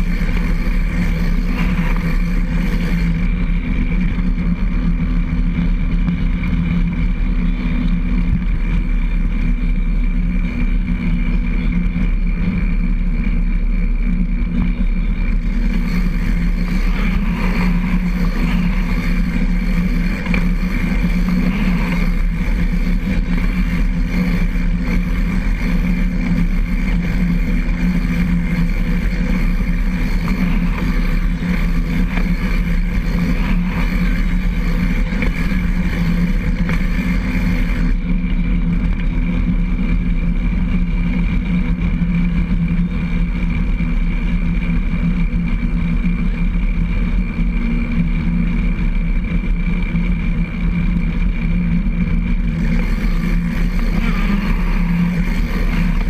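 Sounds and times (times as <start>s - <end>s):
trike tyre and drivetrain rumble: 0.0s - 56.0s.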